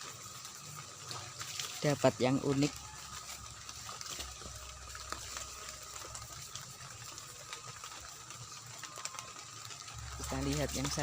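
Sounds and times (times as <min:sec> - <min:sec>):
drips ticking: 0:00.0 - 0:11.0
rain falling: 0:00.0 - 0:11.0.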